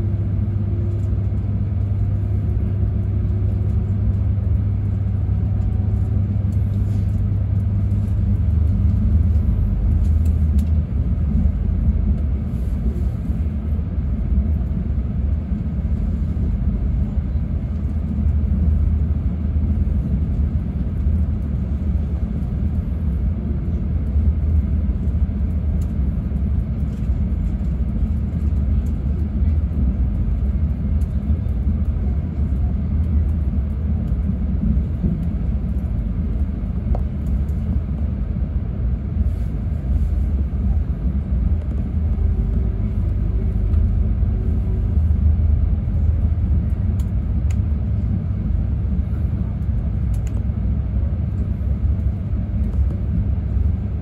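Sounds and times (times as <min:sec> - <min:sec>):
train rumble from inside cabin: 0:00.0 - 0:54.0.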